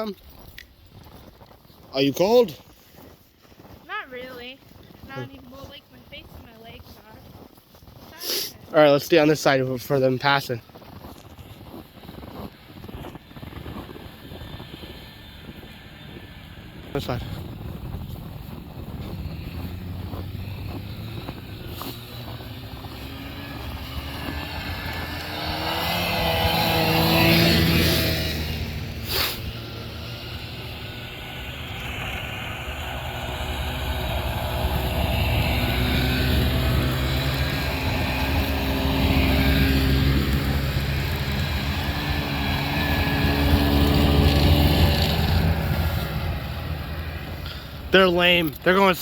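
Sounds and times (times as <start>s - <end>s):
snowmobile engines: 0.0s - 49.0s.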